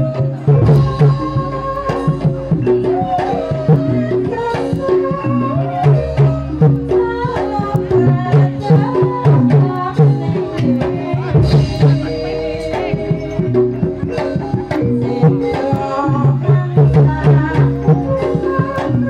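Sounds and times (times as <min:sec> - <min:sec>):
hand drums beating fast: 0:00.0 - 0:19.0
wavering pitch-bending melody: 0:00.0 - 0:19.0.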